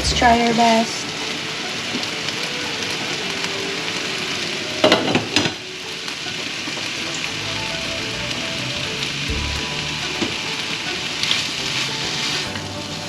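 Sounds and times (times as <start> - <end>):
stir fry sizzling in pan: 0.0 - 13.0.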